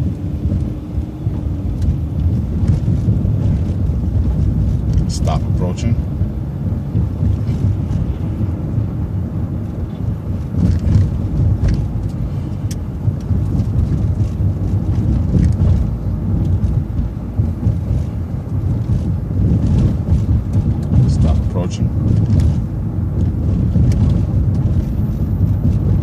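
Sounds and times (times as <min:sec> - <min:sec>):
bus engine and tyre rumble: 0:00.0 - 0:26.0.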